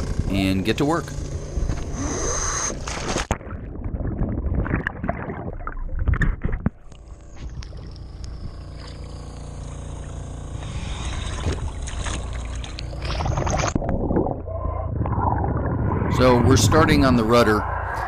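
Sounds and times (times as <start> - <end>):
underwater bubbling: 1.6 - 9.2, 11.2 - 18.0
low underwater rumble: 3.3 - 18.0.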